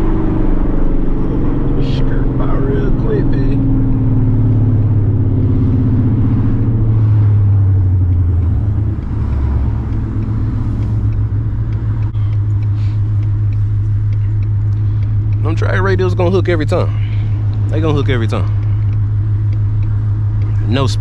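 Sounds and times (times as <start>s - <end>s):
loud low exhaust drone: 0.0s - 21.0s.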